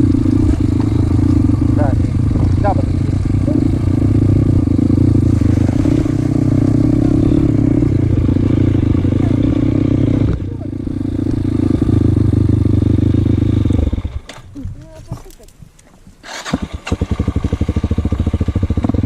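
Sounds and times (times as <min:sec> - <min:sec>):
motorcycle engine running: 0:00.0 - 0:15.5, 0:16.2 - 0:19.0.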